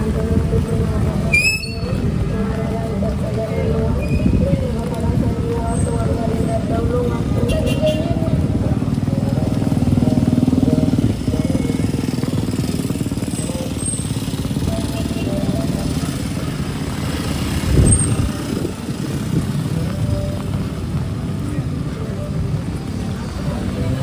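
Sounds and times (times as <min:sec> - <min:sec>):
strong wind rumbling: 0:00.0 - 0:14.9, 0:15.8 - 0:23.0.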